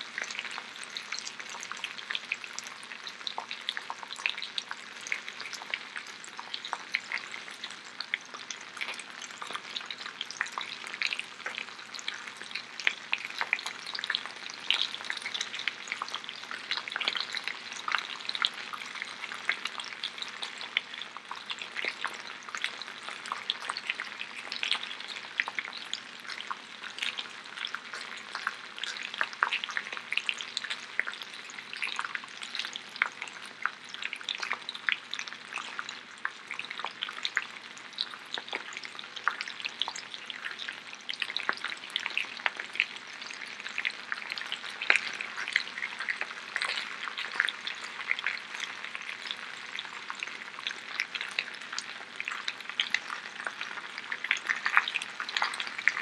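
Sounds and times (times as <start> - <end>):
oil sizzling and crackling: 0.0 - 56.0.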